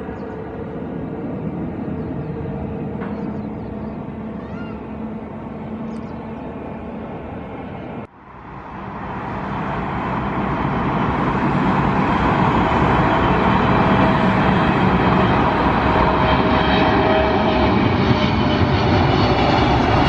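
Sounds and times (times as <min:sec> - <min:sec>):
jet engines approaching: 0:00.0 - 0:20.0
steady rumble: 0:00.0 - 0:20.0.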